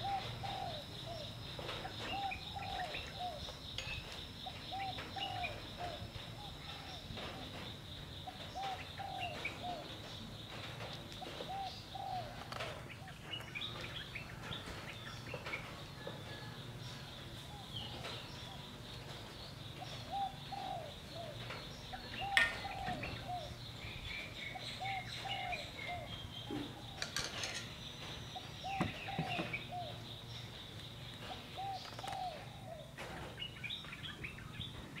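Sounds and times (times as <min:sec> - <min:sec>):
doves cooing: 0:00.0 - 0:30.3, 0:31.2 - 0:34.4
small birds chirping: 0:00.0 - 0:35.0.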